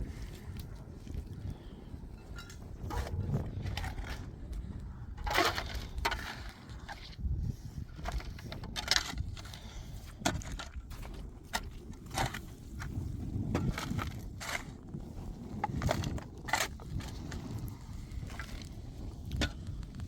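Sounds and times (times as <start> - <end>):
crunching and scraping: 0.0 - 20.0.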